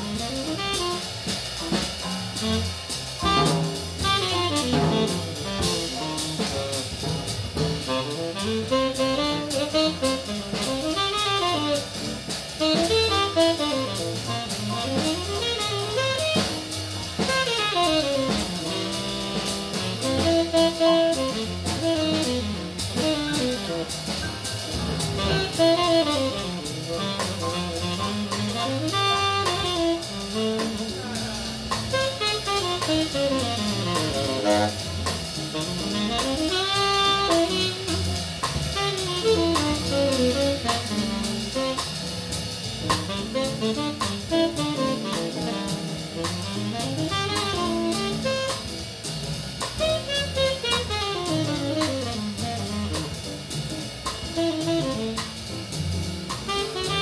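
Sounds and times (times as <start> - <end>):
tenor saxophone solo: 0.0 - 42.2, 42.8 - 49.1, 49.8 - 57.0
jazz rhythm section: 0.0 - 57.0.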